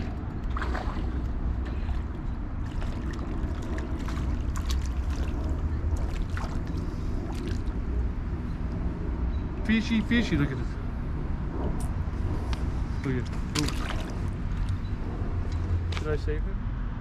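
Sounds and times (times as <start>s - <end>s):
wind buffeting microphone: 0.0s - 16.4s.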